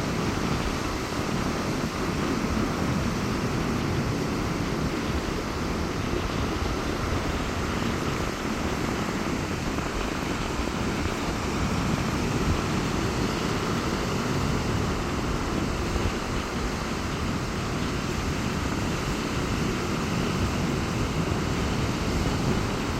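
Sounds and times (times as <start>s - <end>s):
strong wind: 0.0s - 22.9s
surf breaking on beach: 0.0s - 22.9s.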